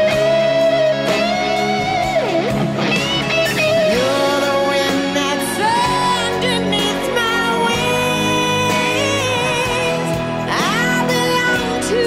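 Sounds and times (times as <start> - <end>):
guitar playing slow melody: 0.0 - 12.0
strummed guitar chords: 0.0 - 12.0.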